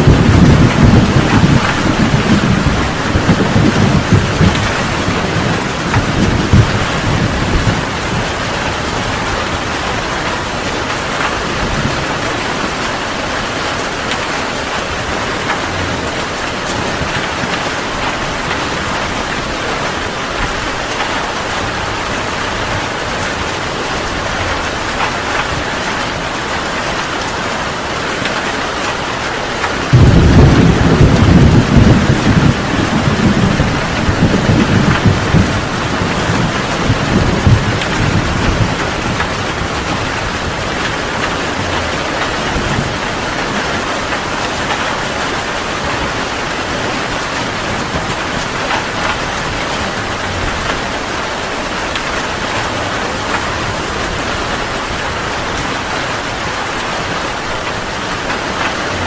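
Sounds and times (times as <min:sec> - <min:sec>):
heavy rain pouring: 0:00.0 - 0:59.0
thunder rumbling: 0:00.0 - 0:59.0.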